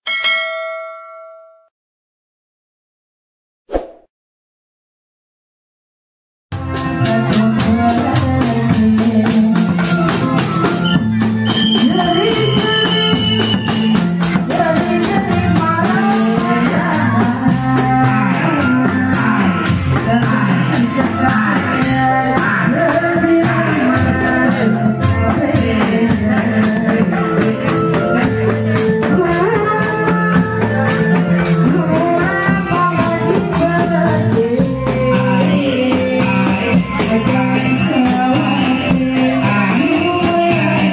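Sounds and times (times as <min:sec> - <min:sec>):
person singing: 0:06.6 - 0:10.9, 0:11.8 - 0:40.9
music with quick beat: 0:06.6 - 0:40.9.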